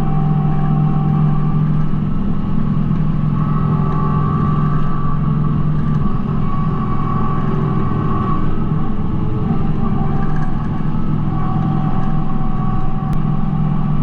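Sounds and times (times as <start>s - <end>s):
high-pitched whine: 0.0s - 14.0s
tractor diesel engine running: 0.0s - 14.0s.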